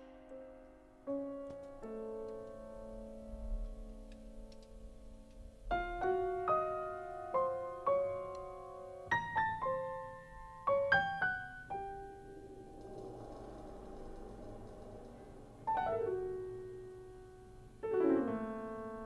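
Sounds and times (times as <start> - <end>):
grand piano playing: 0.0 - 19.0.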